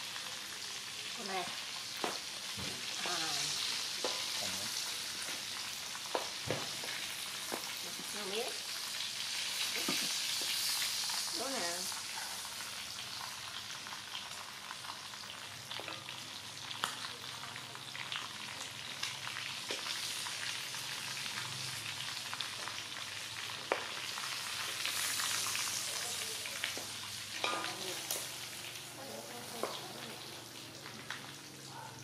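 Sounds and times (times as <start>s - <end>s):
quail frying in hot oil: 0.0s - 32.0s.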